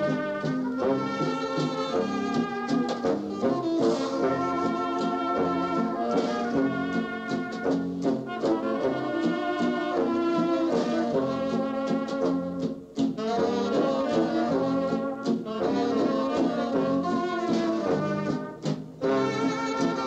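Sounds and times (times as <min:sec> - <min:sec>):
brass-led polka band: 0:00.0 - 0:20.0.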